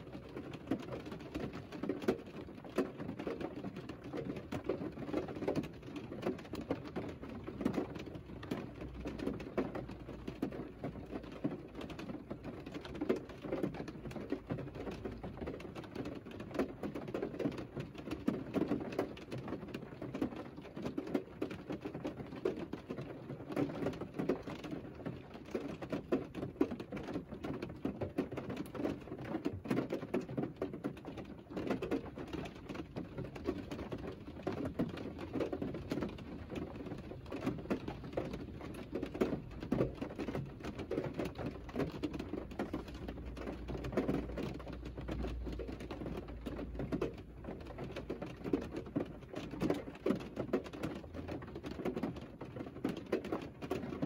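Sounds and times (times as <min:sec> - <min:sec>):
rain on car roof: 0:00.0 - 0:54.0.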